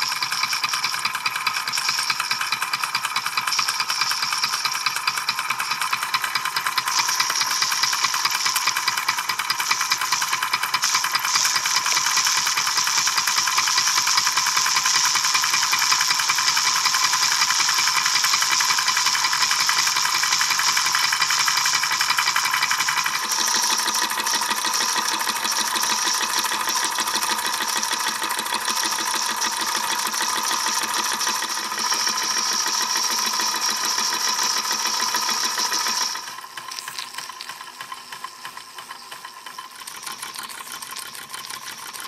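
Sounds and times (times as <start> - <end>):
toy steam engine clattering: 0.0 - 42.0.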